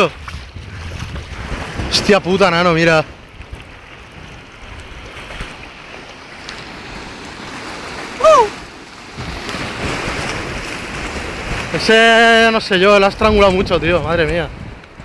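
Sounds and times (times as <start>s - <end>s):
sea water: 0.0s - 15.0s
wind: 0.0s - 15.0s.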